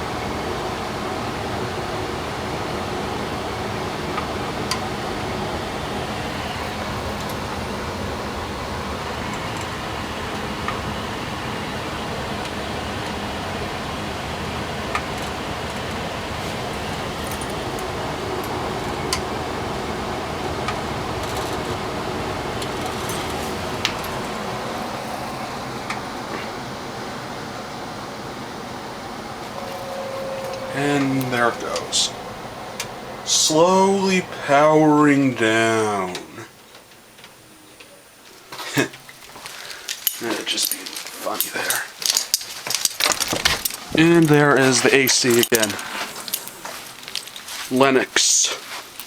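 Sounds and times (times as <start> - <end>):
furnace blower rushing air: 0.0 - 49.0.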